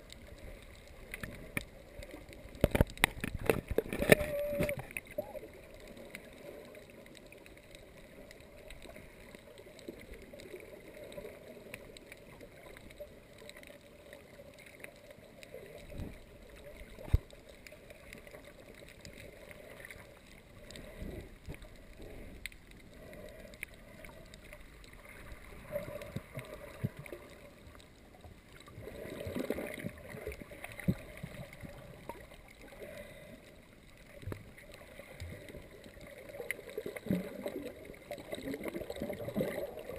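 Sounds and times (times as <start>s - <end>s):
faint underwater water noise: 0.0s - 39.9s
soft gurgles: 0.0s - 39.9s.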